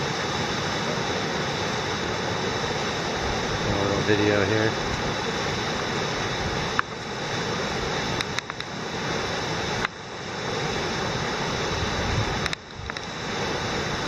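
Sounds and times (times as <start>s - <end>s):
flood water rushing: 0.0s - 14.0s.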